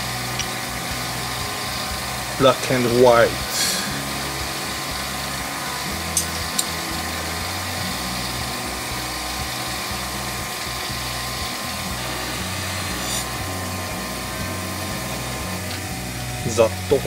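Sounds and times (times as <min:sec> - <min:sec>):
small motor whining: 0:00.0 - 0:17.0.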